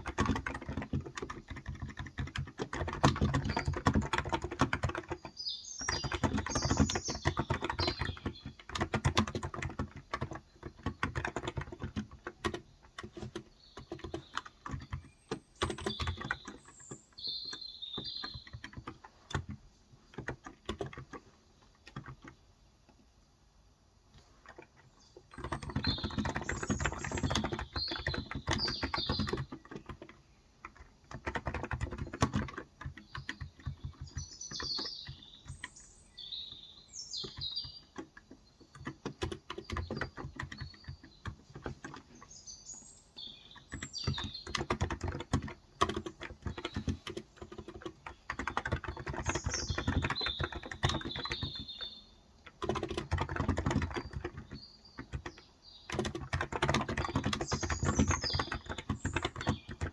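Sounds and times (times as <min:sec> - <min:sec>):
keyboard typing: 0:00.0 - 0:22.4, 0:24.1 - 0:35.9, 0:37.2 - 0:42.3, 0:43.2 - 0:59.9
small birds chirping: 0:00.0 - 0:59.9.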